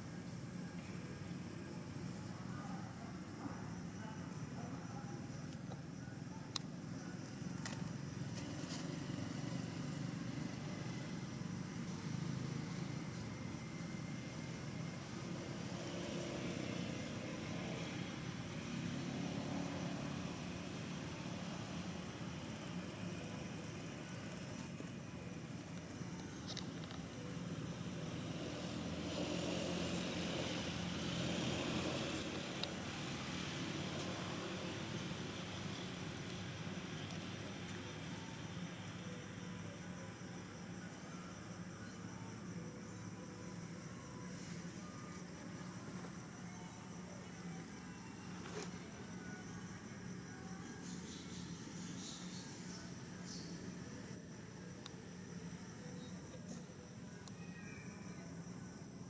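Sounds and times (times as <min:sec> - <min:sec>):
engine running with low hum: 0:00.0 - 0:57.4.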